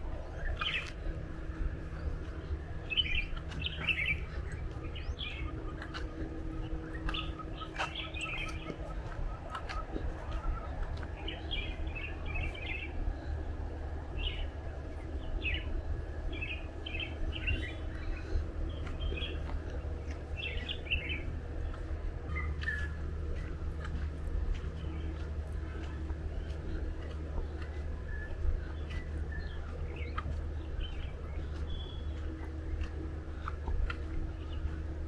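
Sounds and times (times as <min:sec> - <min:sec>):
birds chirping: 0:00.0 - 0:35.0
low rumble: 0:00.0 - 0:35.0.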